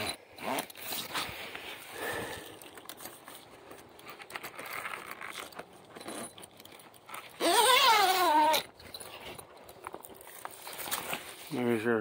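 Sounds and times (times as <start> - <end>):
rustling and handling noises: 0.0 - 12.0.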